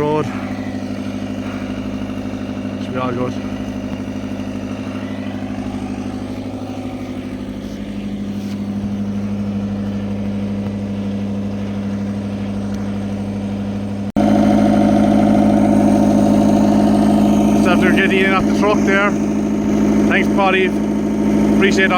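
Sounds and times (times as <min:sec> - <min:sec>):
excavator diesel engine idling: 0:00.0 - 0:21.9.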